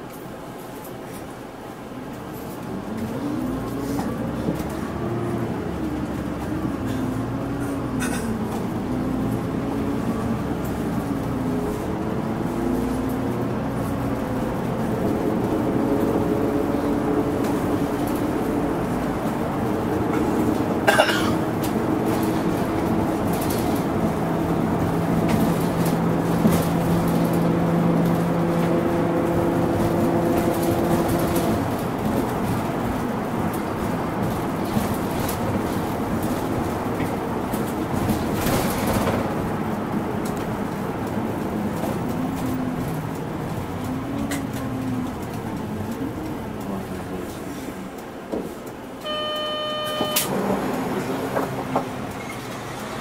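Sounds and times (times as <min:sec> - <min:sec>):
bus engine and drivetrain: 0:00.0 - 0:53.0.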